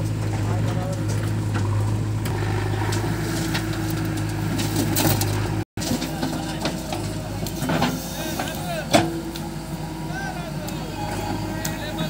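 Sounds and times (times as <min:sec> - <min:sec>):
backhoe loader engine running: 0:00.0 - 0:12.0
diesel tractor engine idling: 0:00.0 - 0:12.0.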